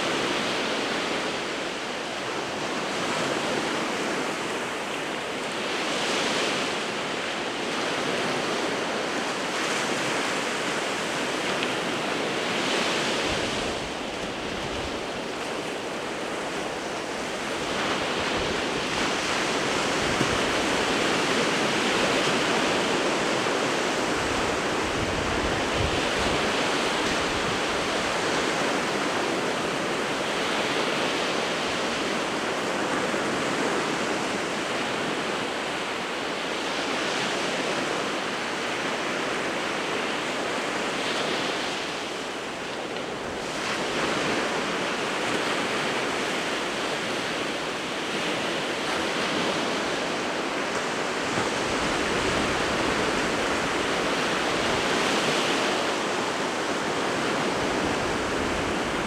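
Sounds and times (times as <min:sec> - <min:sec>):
surf breaking on shore: 0:00.0 - 0:59.0.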